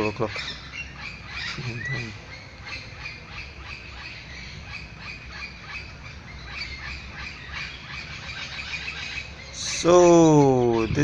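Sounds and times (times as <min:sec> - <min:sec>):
parrots squawking: 0:00.0 - 0:11.0.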